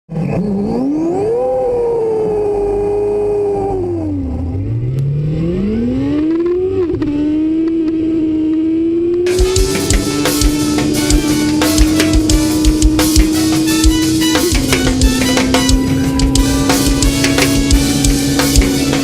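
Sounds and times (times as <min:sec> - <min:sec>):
motorcycle engine accelerating: 0:00.1 - 0:19.0.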